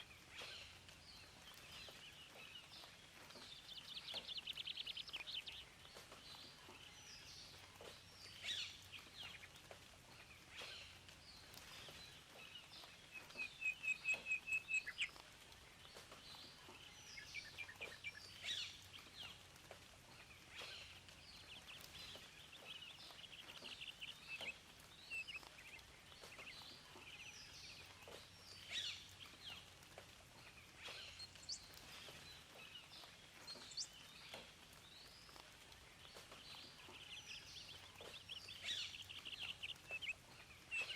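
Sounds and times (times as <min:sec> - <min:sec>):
faint steady hiss: 0:00.0 - 0:40.9
wild birds chirping and singing: 0:00.0 - 0:40.9.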